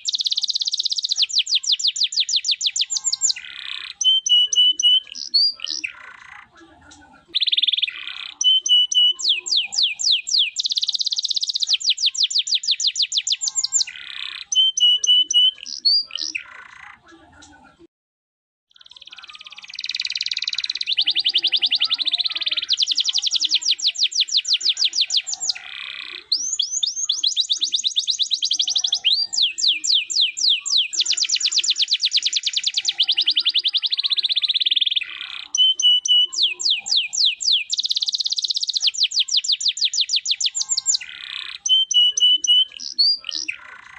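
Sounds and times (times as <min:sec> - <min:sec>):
canary singing trills: 0:00.0 - 0:17.3, 0:18.7 - 0:43.9.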